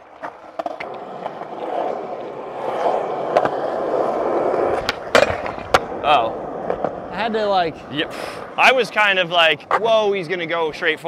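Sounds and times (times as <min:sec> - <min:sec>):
skateboard clacks: 0:00.0 - 0:07.8, 0:08.5 - 0:10.4
skateboard wheels rolling: 0:00.0 - 0:11.0.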